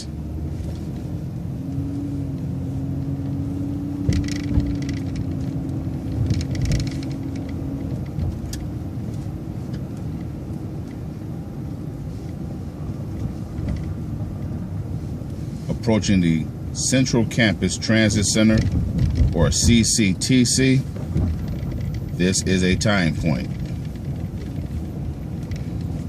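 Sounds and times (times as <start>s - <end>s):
bus drivetrain rumble: 0.0s - 26.0s.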